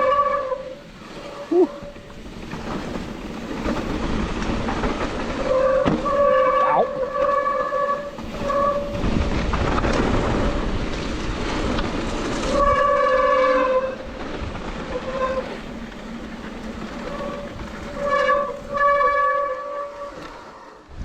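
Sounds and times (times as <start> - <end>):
tyres rumbling on dirt: 0.0 - 21.0
wind: 0.0 - 21.0.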